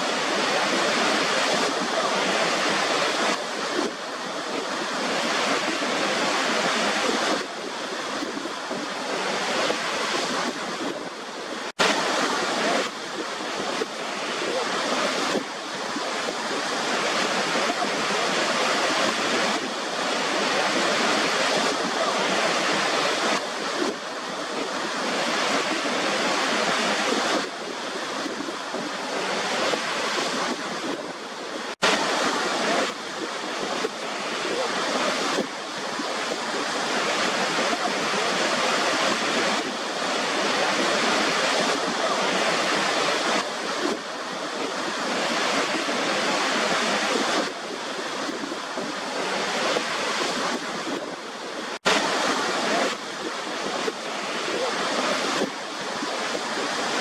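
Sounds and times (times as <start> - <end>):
waterfall rushing water: 0.0 - 57.0.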